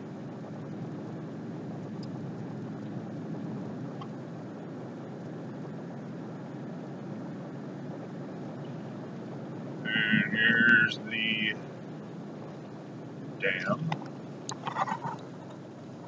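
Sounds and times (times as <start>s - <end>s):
road and engine noise inside car: 0.0s - 16.0s.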